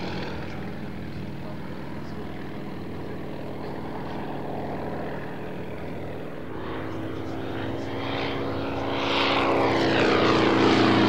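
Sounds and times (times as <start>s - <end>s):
aircraft engine and propeller droning: 0.0s - 11.0s.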